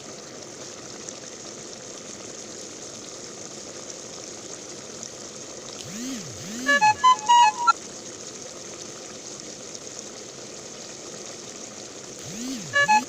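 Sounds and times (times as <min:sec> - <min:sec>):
curry sizzling and bubbling: 0:00.0 - 0:05.9, 0:07.3 - 0:12.2.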